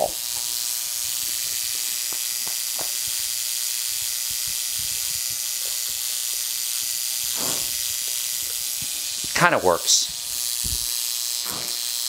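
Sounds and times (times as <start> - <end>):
spark plugs arcing buzz: 0.0 - 12.0.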